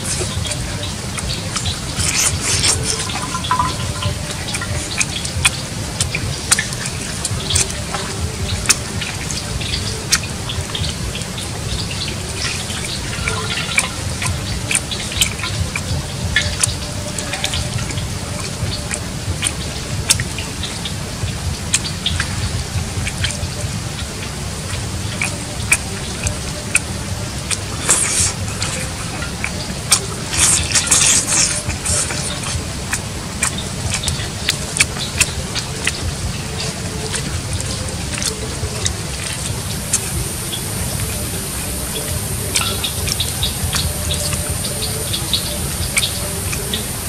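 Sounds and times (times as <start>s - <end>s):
wet chewing and lip smacks: 0.0s - 47.0s.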